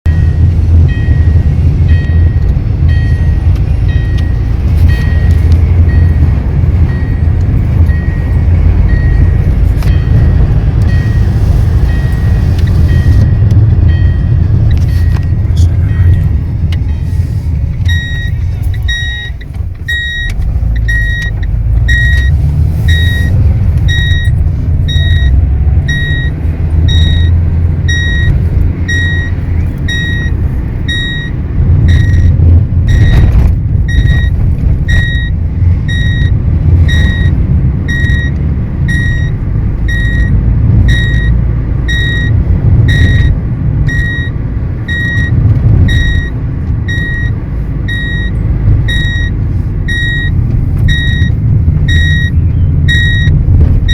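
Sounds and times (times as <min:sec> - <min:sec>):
car engine rumble: 0:00.0 - 0:53.9
seat belt warning beeps: 0:00.1 - 0:53.9.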